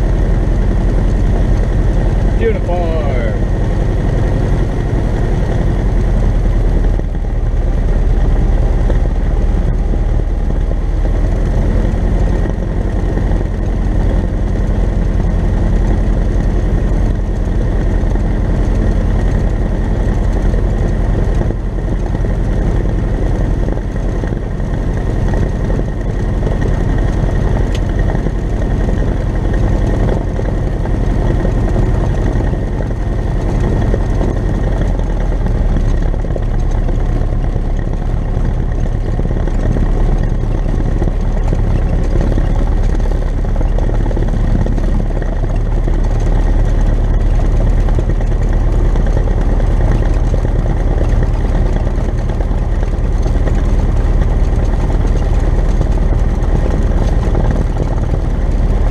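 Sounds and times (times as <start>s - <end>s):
aircraft engine droning: 0.0s - 58.9s.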